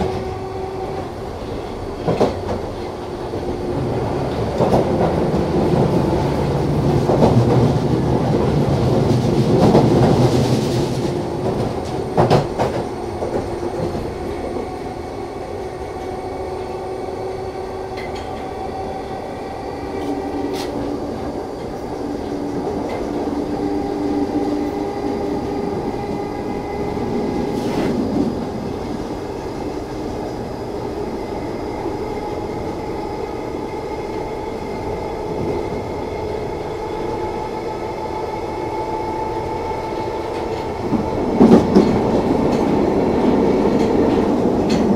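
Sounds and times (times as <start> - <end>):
train motor tones: 0.0 - 8.2, 9.6 - 44.9
underground train rumble: 0.0 - 44.9.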